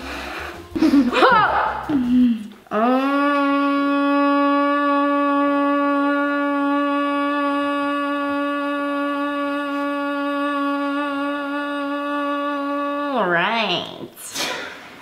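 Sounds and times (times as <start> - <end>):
person holding long note: 0.0 - 13.4.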